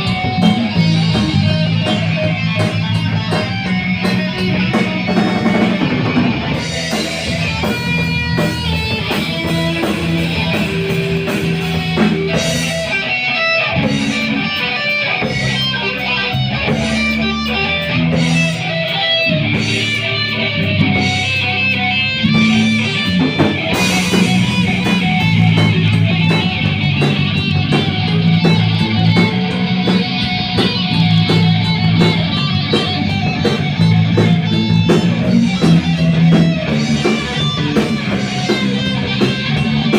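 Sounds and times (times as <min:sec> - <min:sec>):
bass line: 0:00.0 - 0:39.9
electric guitar: 0:00.0 - 0:39.9.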